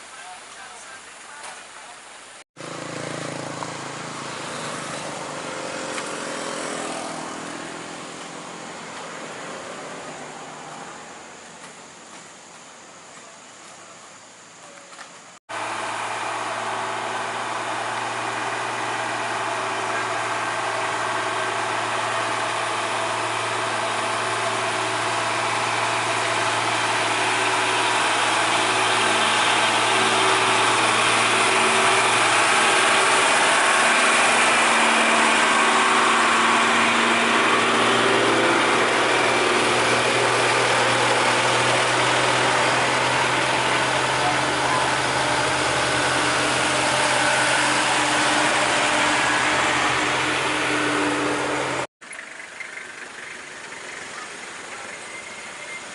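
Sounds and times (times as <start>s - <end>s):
truck engine running: 2.6s - 12.5s, 15.5s - 55.9s.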